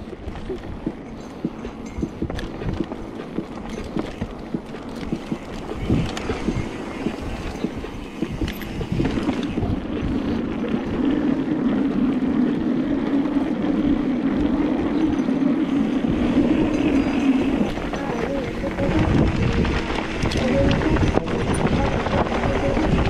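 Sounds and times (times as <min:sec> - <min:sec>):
bike tyres rolling on dirt: 0:00.0 - 0:23.0.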